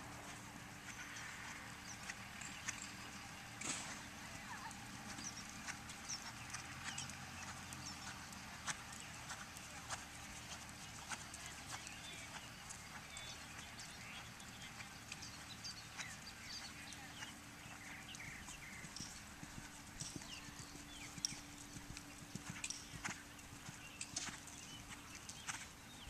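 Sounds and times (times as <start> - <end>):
faint hoofbeats on sand: 0.0 - 26.0.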